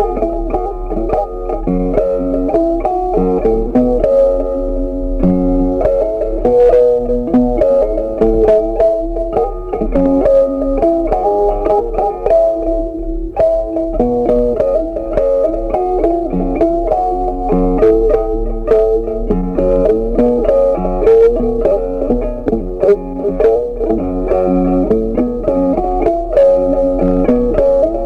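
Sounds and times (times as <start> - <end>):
plucked guitar music: 0.0 - 28.0.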